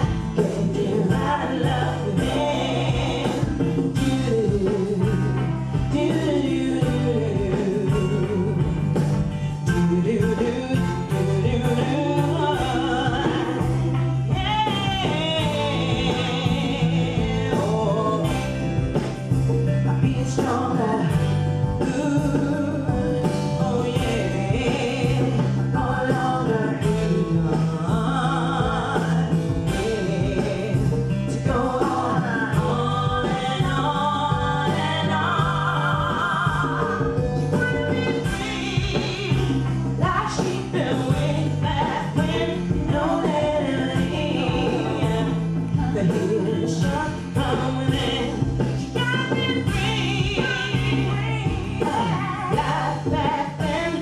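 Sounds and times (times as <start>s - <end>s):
backing music with bass line: 0.0s - 54.0s
woman singing pop song: 0.0s - 54.0s.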